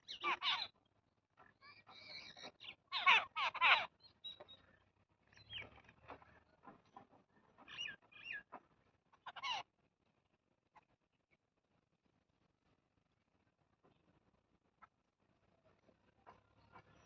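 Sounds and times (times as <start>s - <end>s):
small birds chirping: 0.0s - 11.4s, 13.8s - 17.0s.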